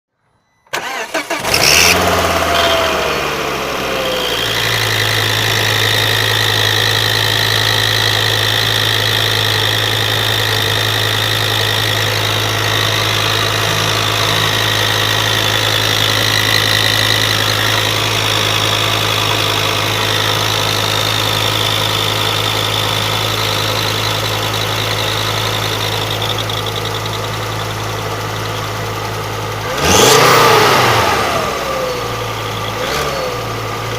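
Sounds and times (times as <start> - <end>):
car engine starting and idling: 0.4 - 33.9.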